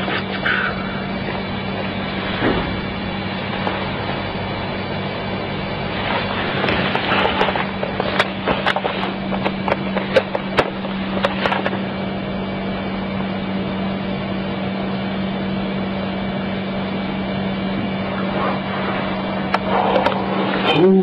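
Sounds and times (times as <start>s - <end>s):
electrical hum and hiss: 0.0s - 21.0s.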